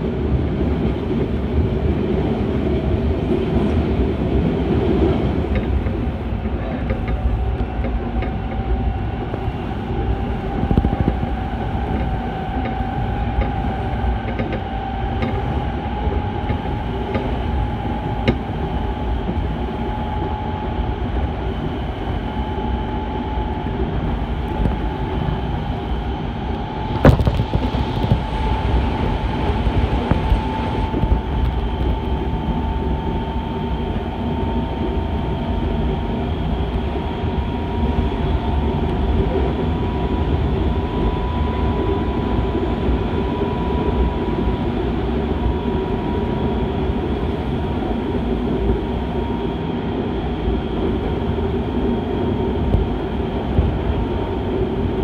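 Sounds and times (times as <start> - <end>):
electric train rumble and whine: 0.0 - 55.0.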